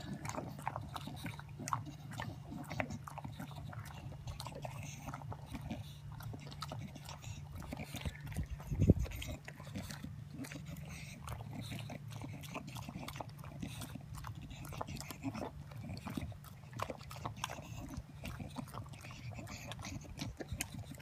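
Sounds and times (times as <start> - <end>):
dog licking and chewing: 0.0 - 21.0.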